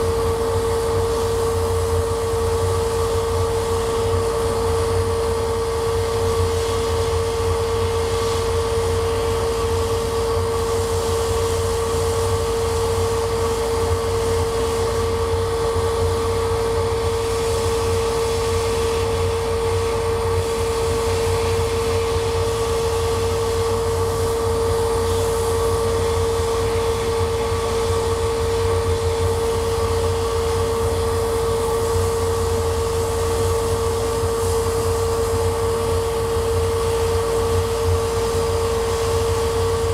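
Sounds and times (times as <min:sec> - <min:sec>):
laser cutter whine and hum: 0:00.0 - 0:39.9.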